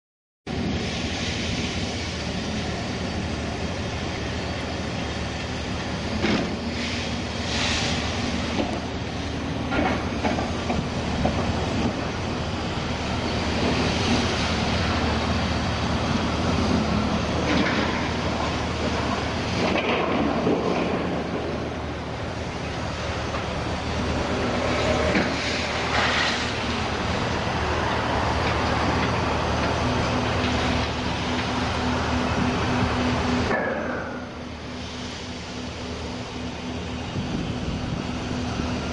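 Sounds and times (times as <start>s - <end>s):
machine drone: 0.5s - 38.9s.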